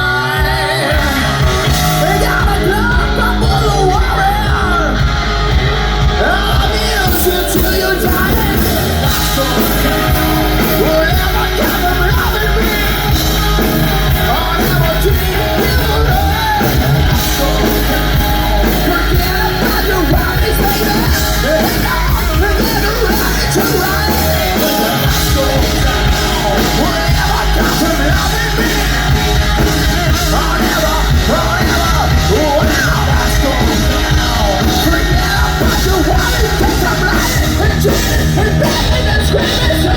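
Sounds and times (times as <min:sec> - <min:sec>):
hard rock band playing live: 0:00.0 - 0:39.9
person singing: 0:00.0 - 0:39.9.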